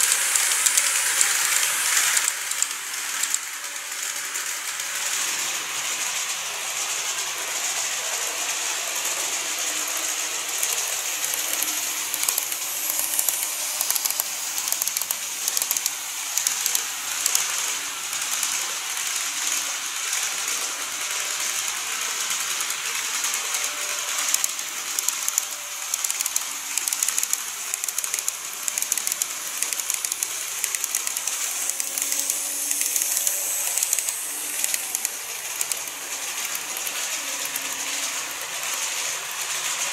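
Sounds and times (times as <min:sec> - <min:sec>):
model train wheels and motors hissing: 0:00.0 - 0:39.9
wheels clicking over rail joints: 0:00.0 - 0:39.9.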